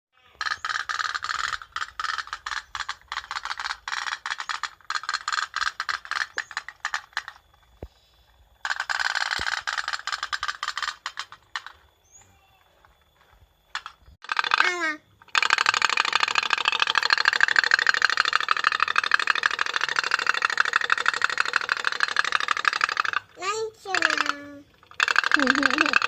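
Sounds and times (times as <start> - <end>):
toy boat rattling clicks: 0.3 - 7.9, 8.6 - 11.8, 13.7 - 26.0.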